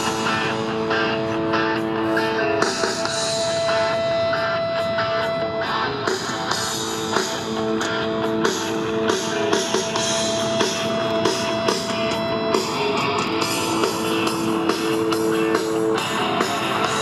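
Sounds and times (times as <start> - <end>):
background music with guitar and drums: 0.0 - 17.0.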